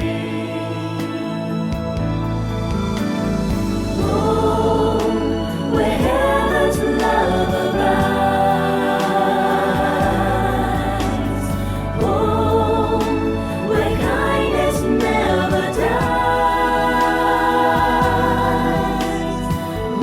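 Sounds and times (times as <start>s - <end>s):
voices singing held notes: 0.0s - 2.1s, 4.0s - 20.0s.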